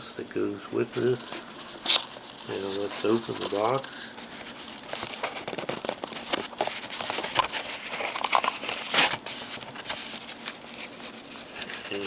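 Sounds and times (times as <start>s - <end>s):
cardboard box crinkling and scraping: 1.0s - 12.0s.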